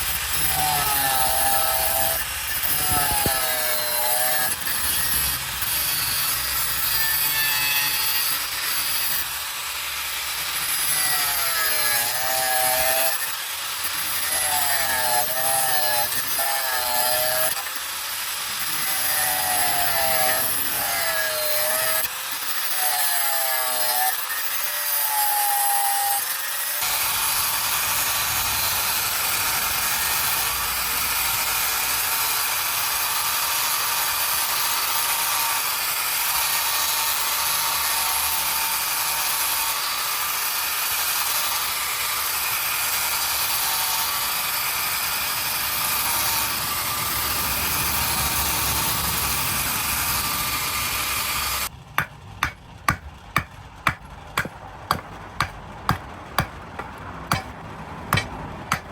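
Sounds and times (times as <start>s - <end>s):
tool rasping wood with whine: 0.0s - 58.9s.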